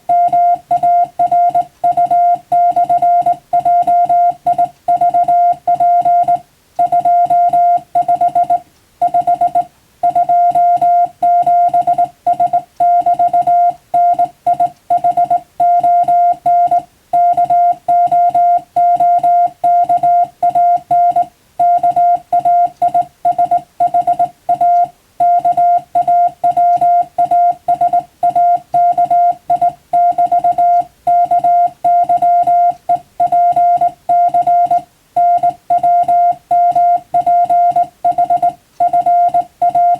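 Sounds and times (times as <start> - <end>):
morse code tone: 0.1 - 39.9.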